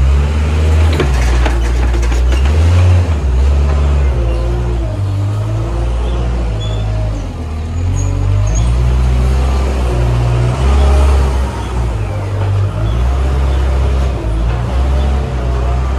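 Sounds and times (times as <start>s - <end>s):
loader engine running: 0.0s - 15.9s.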